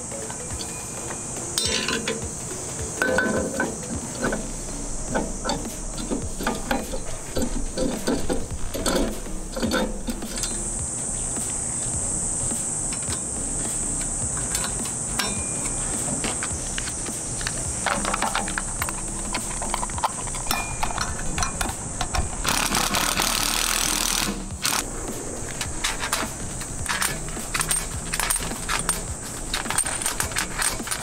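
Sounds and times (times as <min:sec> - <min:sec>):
insects droning: 0:00.0 - 0:31.0
metallic knocks and clinks: 0:00.1 - 0:10.8, 0:14.0 - 0:24.8, 0:25.8 - 0:31.0.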